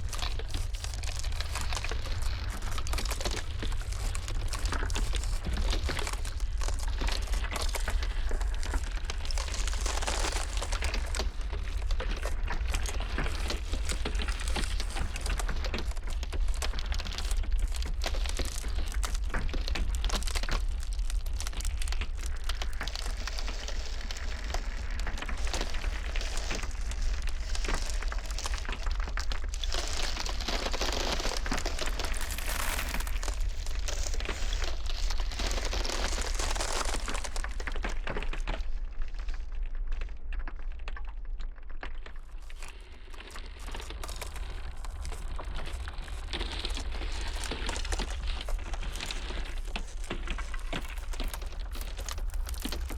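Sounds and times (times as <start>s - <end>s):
ice cracking and crackling: 0.0s - 52.9s
low rumble of blizzard wind: 0.0s - 52.9s.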